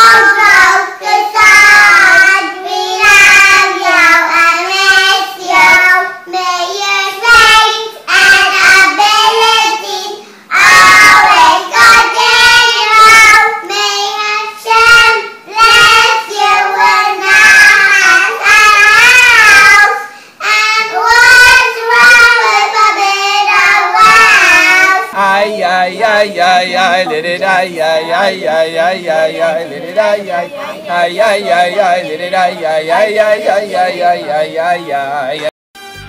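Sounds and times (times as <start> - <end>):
girls singing together: 0.0 - 35.5.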